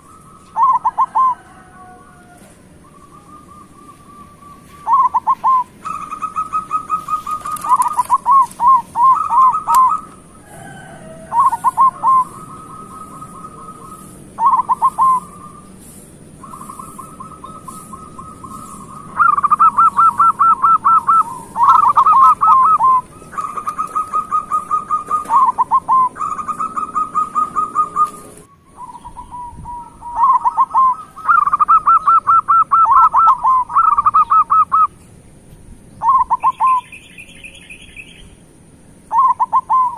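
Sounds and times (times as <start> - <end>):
dove cooing: 0.0 - 35.0, 36.0 - 37.6, 39.1 - 39.9.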